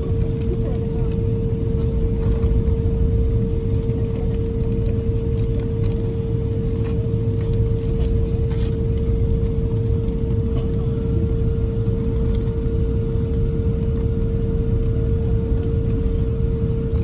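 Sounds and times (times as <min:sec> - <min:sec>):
constant hum: 0:00.0 - 0:17.0.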